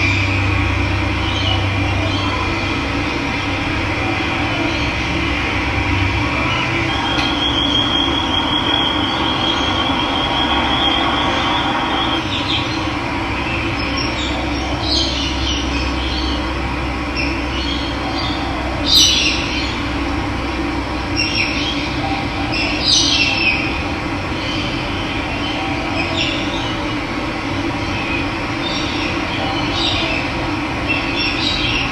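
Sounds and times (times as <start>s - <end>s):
birds calling: 0.0s - 20.1s, 21.0s - 31.9s.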